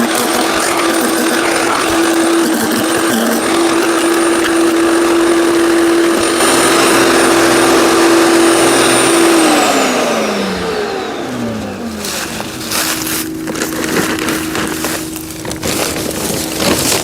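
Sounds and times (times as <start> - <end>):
wood chipper whining: 0.0 - 17.0.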